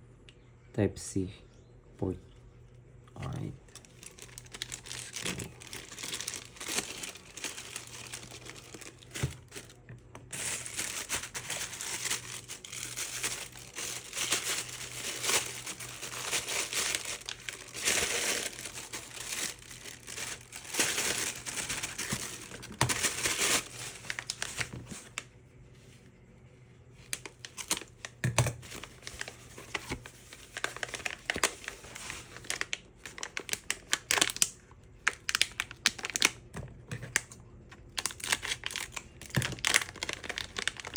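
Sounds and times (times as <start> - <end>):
packaging crinkling and rustling: 3.4 - 25.3, 27.0 - 40.9.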